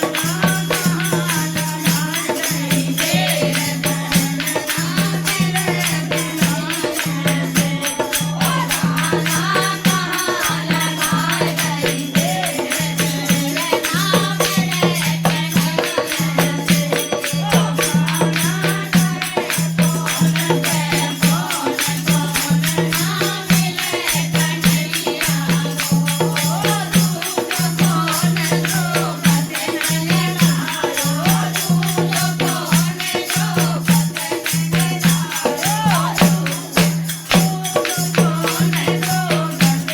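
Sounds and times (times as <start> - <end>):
jingling tambourine rhythm: 0.0 - 39.9
voices singing: 0.0 - 39.9.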